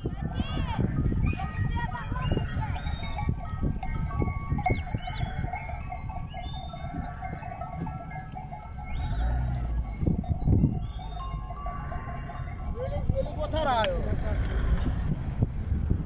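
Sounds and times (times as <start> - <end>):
sheep bells clinking: 0.0 - 14.4
sheep hooves pattering on road: 0.0 - 14.8.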